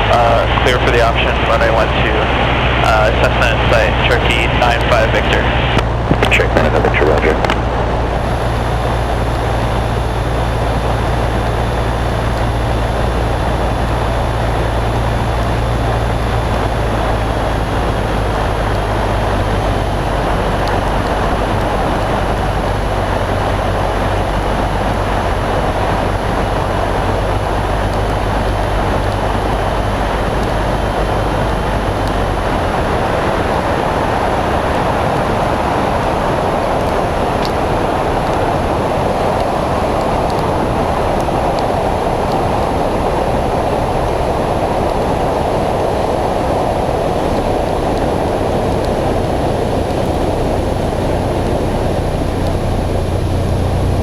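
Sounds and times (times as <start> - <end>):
airplane engine drone: 0.0 - 54.0.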